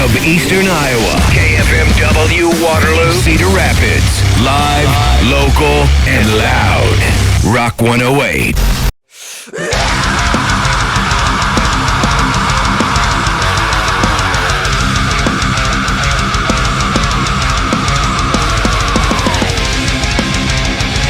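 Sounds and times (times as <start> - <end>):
steady drum beat: 0.0 - 7.5, 9.8 - 21.0
distorted electric guitar: 0.0 - 7.7, 9.8 - 21.0
heavy rock music: 0.0 - 7.7, 9.7 - 21.0.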